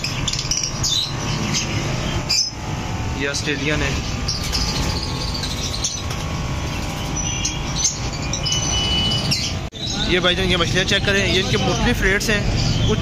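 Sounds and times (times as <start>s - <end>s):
budgerigars chirping: 0.0s - 13.0s
steady background noise: 0.0s - 13.0s.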